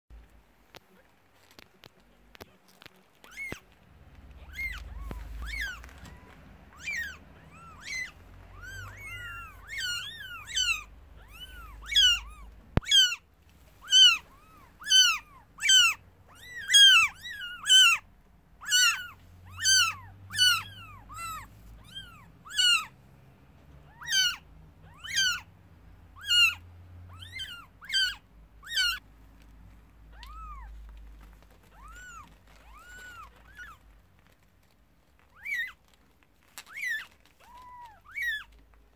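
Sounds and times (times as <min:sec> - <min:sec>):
kittens mewing: 0:02.6 - 0:29.1, 0:29.9 - 0:38.9.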